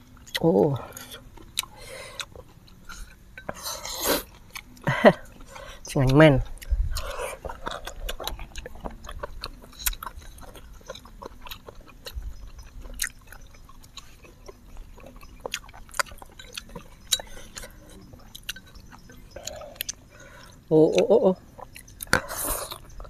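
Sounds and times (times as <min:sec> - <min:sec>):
people chewing and slurping noodles: 0:00.0 - 0:23.0.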